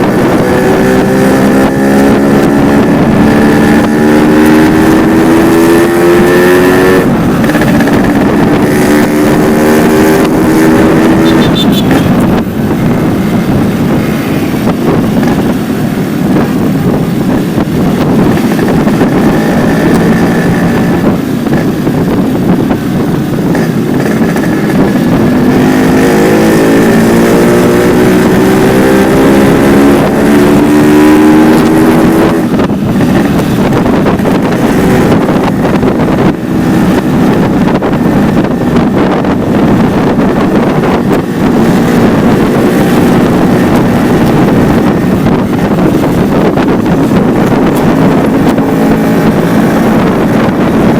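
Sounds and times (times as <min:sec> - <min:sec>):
two-stroke motorcycle engine: 0:00.0 - 0:50.9.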